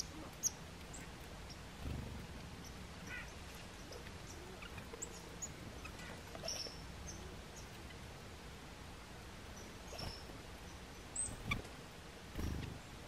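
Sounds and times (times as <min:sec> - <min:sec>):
faint steady hiss: 0:00.0 - 0:13.0
songbirds chirping: 0:00.0 - 0:13.0.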